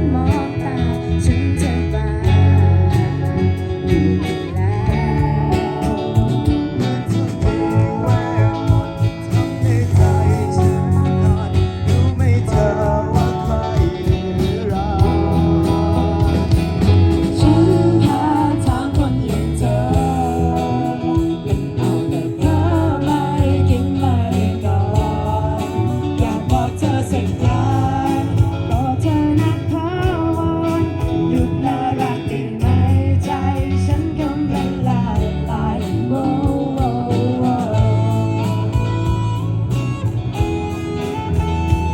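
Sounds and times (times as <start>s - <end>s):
band playing pop-rock song: 0.0s - 41.9s
lead voice singing: 0.0s - 41.9s.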